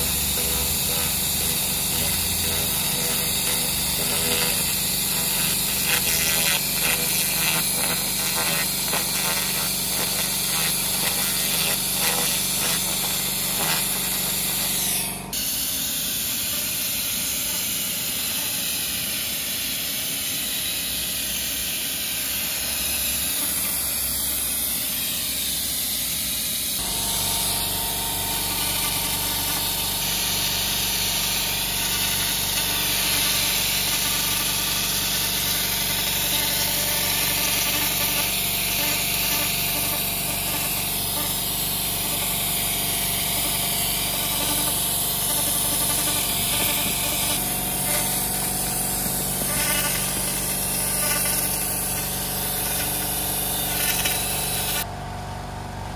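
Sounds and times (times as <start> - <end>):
laser cleaner hissing: 0.0 - 54.9.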